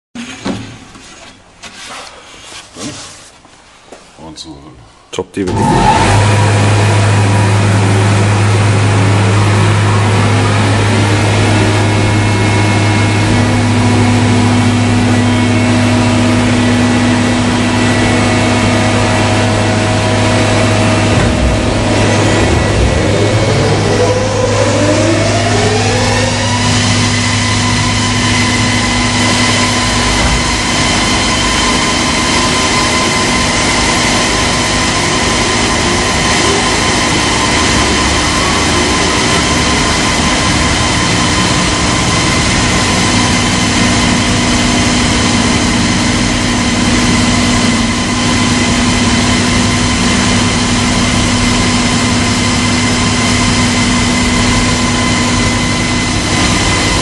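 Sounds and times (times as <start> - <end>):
belt sander hum and whine: 5.5 - 57.0.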